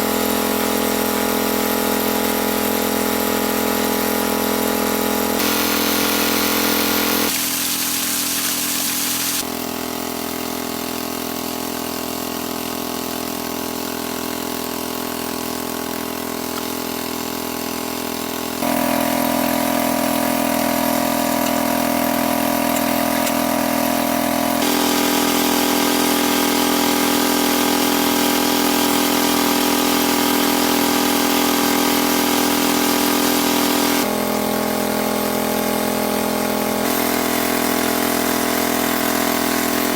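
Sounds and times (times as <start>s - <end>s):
engine-driven water pump running: 0.0s - 39.9s.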